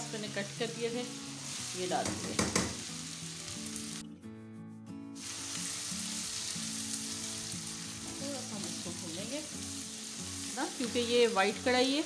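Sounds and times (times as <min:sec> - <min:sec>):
onions sizzling in hot oil: 0:00.0 - 0:04.0, 0:05.2 - 0:12.0.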